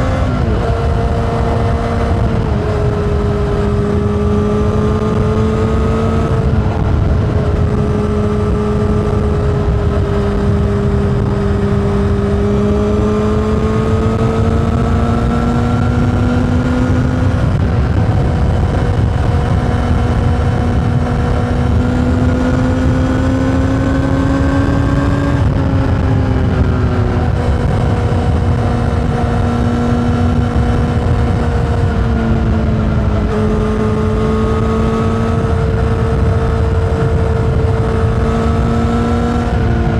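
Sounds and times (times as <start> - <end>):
motorcycle engine at high revs: 0.0 - 39.9
wind and road noise: 0.0 - 39.9.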